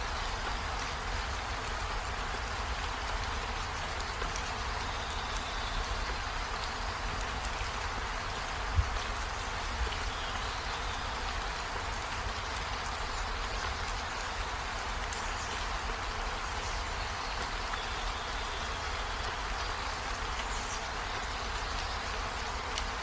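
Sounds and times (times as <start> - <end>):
steady rainfall hiss: 0.0 - 23.0.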